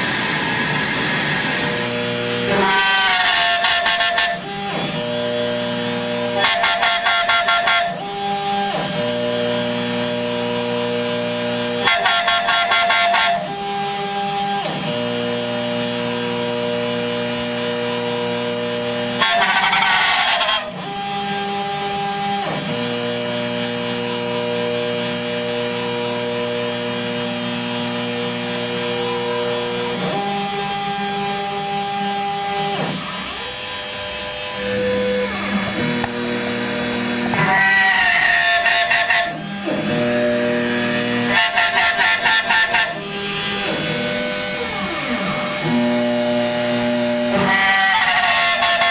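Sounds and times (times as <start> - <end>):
stepper motors whining: 0.0 - 48.9.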